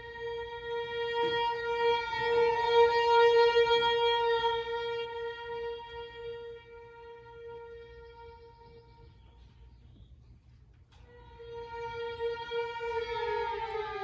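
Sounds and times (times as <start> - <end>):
string quartet playing: 0.0 - 9.4, 11.0 - 14.0.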